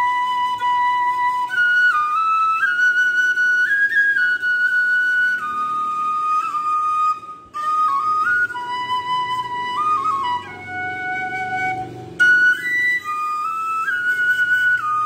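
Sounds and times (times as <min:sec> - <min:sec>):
high melody of long notes: 0:00.0 - 0:15.0.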